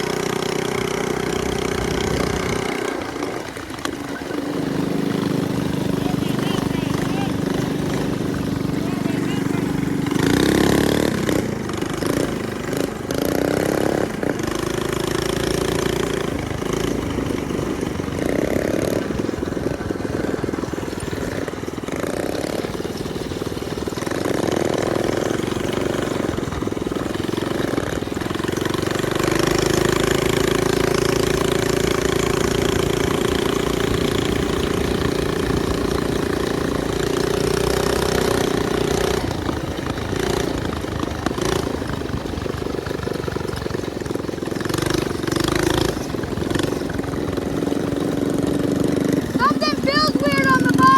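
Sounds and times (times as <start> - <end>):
minibike engine revving: 0.0 - 50.9.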